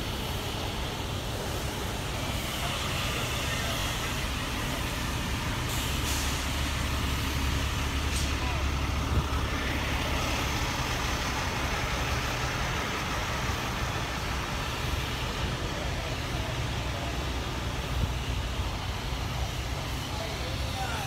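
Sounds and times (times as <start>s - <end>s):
diesel truck engine idling: 0.0s - 21.0s
outdoor yard noise: 0.0s - 21.0s.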